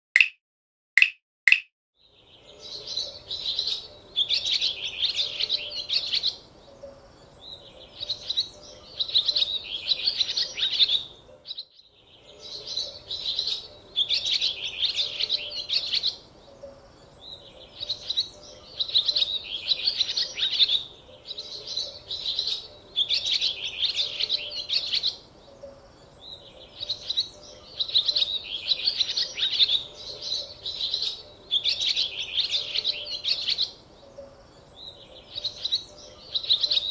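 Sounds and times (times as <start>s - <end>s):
songbird singing: 1.0s - 36.9s.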